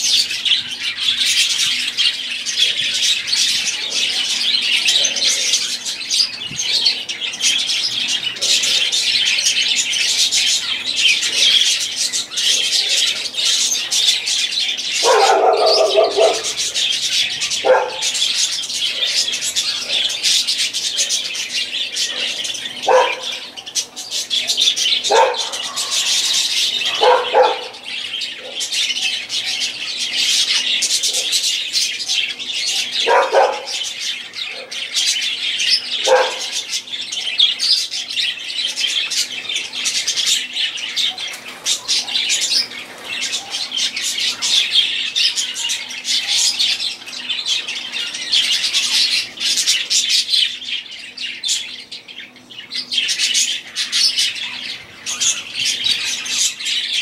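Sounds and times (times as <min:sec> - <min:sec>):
budgerigars chattering: 0:00.0 - 0:57.0
lower bird calls: 0:00.0 - 0:57.0.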